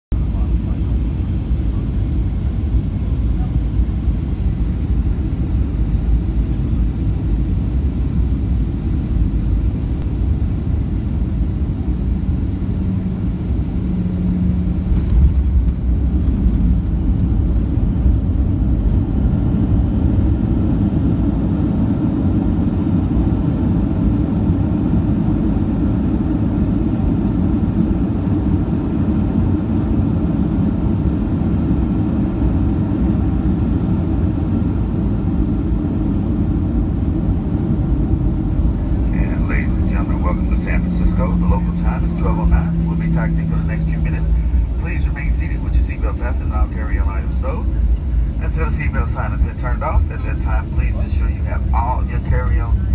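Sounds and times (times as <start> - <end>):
jet engine and airflow rumble: 0.1 - 52.9
steady whine: 0.1 - 52.9.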